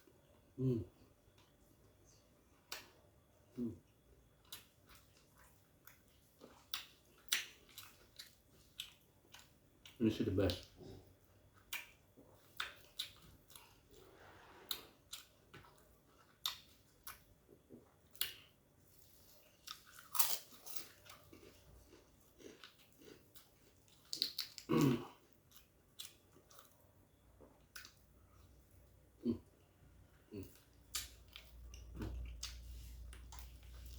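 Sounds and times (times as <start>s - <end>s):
person chewing food: 1.0s - 33.9s.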